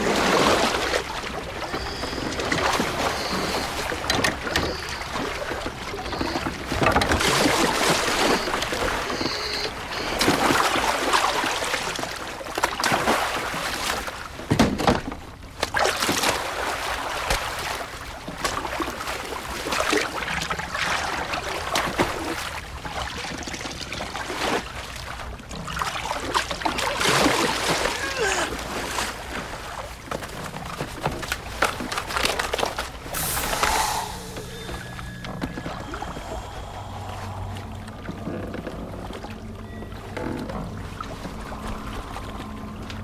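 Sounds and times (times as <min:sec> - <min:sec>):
water splashing against a boat: 0:00.0 - 0:43.0.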